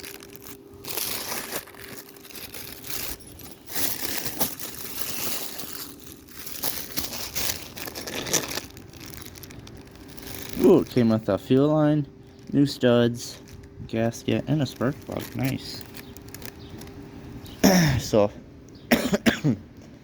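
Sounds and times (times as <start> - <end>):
plastic packaging crinkling: 0.0 - 17.5.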